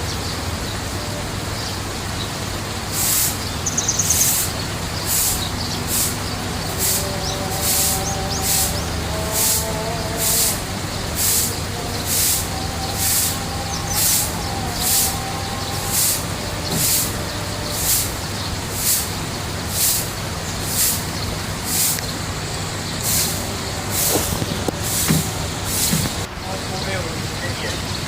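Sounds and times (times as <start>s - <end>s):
low mechanical hum: 0.0s - 26.4s
short bursts of hiss: 2.9s - 22.2s, 22.9s - 26.3s.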